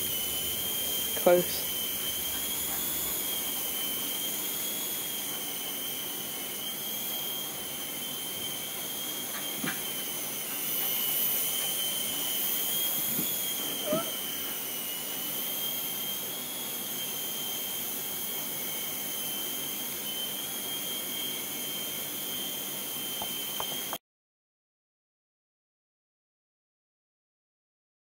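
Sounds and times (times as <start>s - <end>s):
toy helicopter rotor whine: 0.0s - 24.0s.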